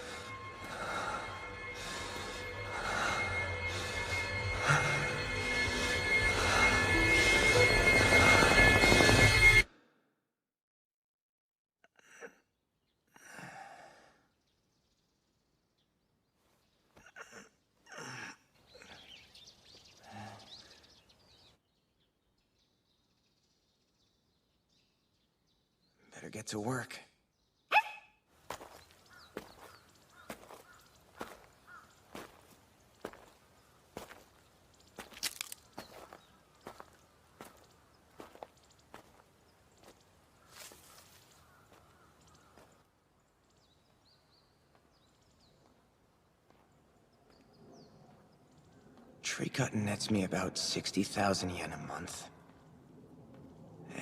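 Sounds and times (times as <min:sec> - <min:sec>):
birds chirping: 0:00.0 - 0:09.6, 0:12.6 - 0:54.0.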